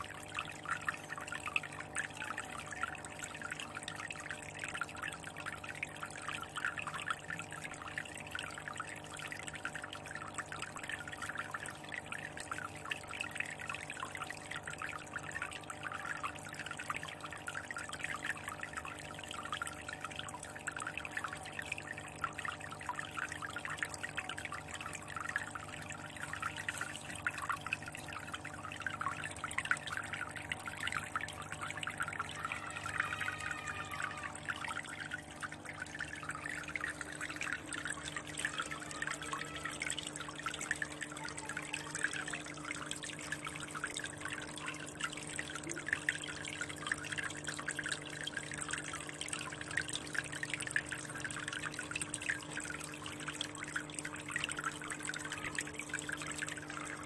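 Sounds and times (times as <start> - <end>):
water trickling into aquarium: 0.0 - 57.0.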